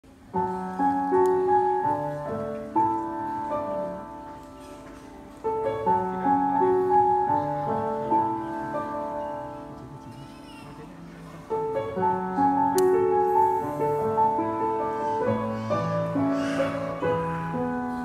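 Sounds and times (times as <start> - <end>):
grand piano melody: 0.1 - 18.0.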